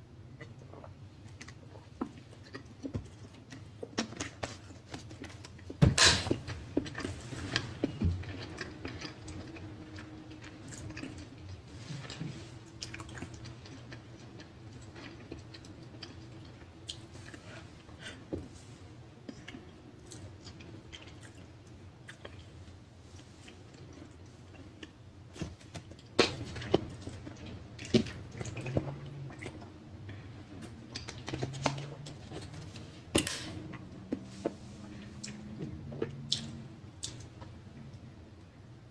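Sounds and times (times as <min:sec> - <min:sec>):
chewing with wet mouth smacks: 0:00.3 - 0:05.8, 0:06.4 - 0:18.4, 0:19.2 - 0:33.0, 0:33.6 - 0:37.6.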